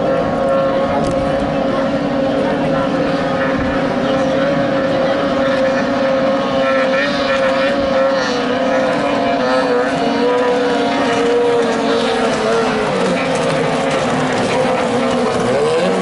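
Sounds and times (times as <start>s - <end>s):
outboard motor high-pitched drone: 0.0s - 16.0s.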